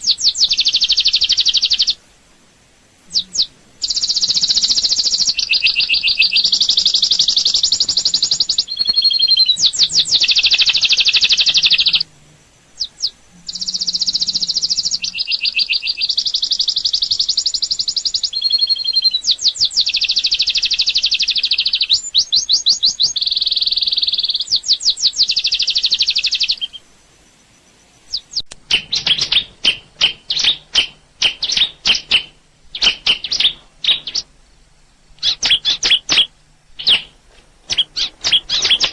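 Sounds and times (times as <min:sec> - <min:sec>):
songbird trilling: 0:00.0 - 0:02.1, 0:03.0 - 0:26.9, 0:28.0 - 0:34.4, 0:35.2 - 0:38.9
bird chirping: 0:00.0 - 0:38.9.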